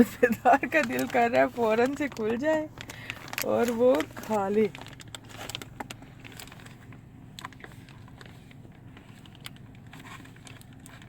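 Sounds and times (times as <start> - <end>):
low steady hum: 0.0 - 11.0
sweet packaging crinkling: 0.0 - 11.0.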